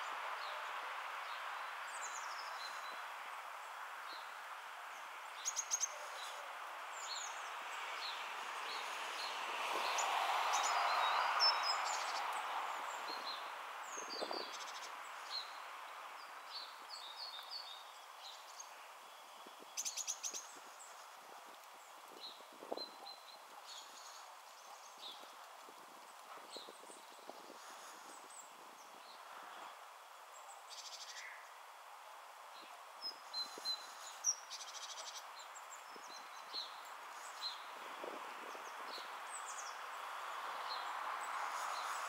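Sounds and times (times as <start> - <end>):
outdoor background rush: 0.0 - 42.0.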